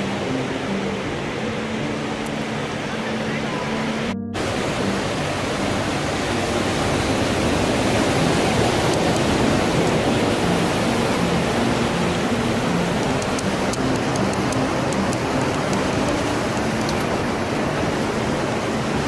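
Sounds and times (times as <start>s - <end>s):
ocean surf on a beach: 0.0s - 19.0s.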